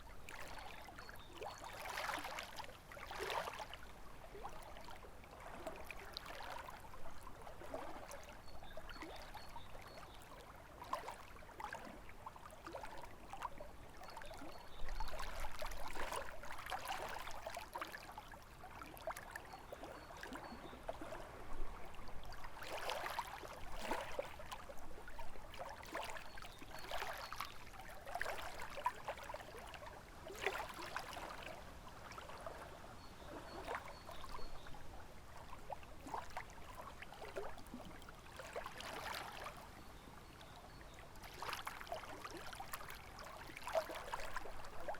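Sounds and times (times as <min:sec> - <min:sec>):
waves lapping against shore: 0:00.2 - 0:44.9.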